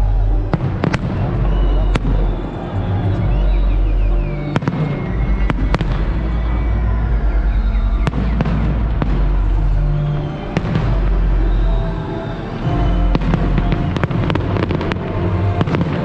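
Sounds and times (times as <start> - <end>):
deep rumble of fireworks bursts: 0.0 - 16.0
fireworks bangs: 0.2 - 16.0.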